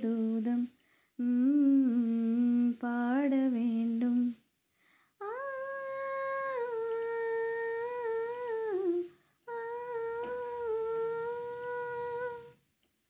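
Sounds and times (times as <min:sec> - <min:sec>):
person humming a melody: 0:00.0 - 0:04.4, 0:05.2 - 0:12.6.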